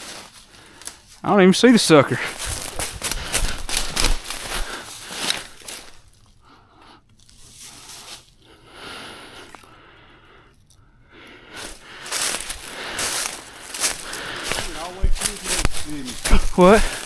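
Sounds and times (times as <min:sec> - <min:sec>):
rustling and crunching: 0:00.0 - 0:01.2, 0:02.1 - 0:06.4, 0:07.0 - 0:09.8, 0:10.4 - 0:17.0.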